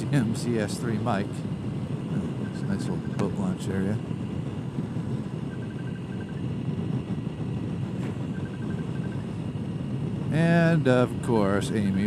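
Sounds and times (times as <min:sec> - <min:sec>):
scooter engine drone: 0:00.0 - 0:12.0
wind and road noise: 0:00.0 - 0:12.0.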